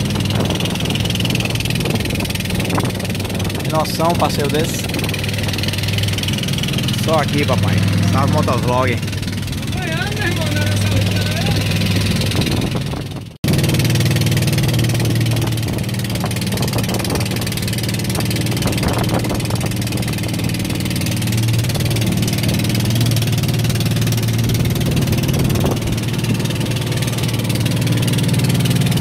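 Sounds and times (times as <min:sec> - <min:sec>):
outboard motor running: 0:00.0 - 0:29.0
water noise: 0:00.0 - 0:29.0
wind: 0:00.0 - 0:29.0.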